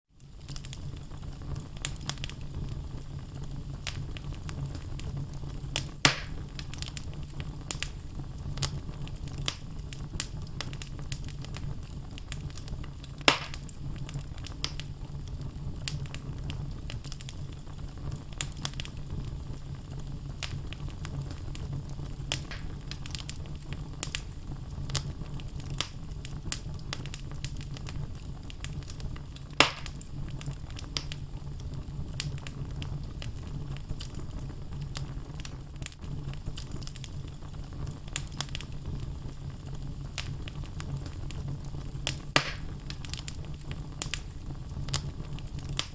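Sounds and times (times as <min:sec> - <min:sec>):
wood fire crackling: 0:00.1 - 0:45.9
sharp pops from burning logs: 0:00.3 - 0:02.8, 0:03.5 - 0:45.9.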